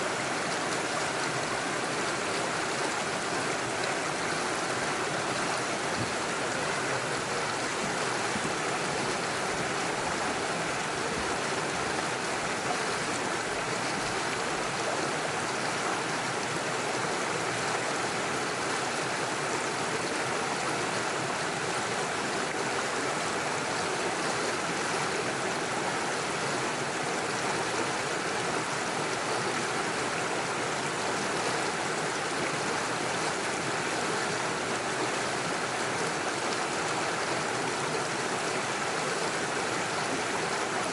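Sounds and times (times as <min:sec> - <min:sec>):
stream splashing over stones: 0:00.0 - 0:40.9.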